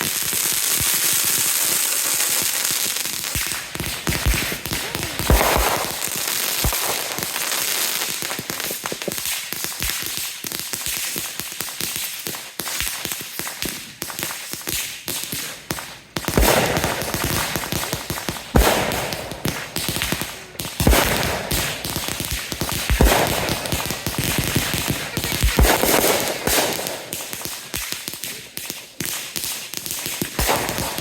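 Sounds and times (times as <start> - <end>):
fireworks bangs: 0.0 - 31.0
fireworks crackling pops: 0.0 - 31.0.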